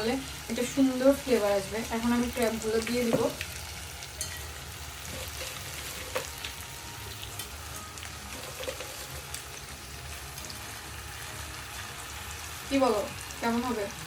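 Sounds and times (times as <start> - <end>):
crabs sizzling in a pan: 0.0 - 14.0.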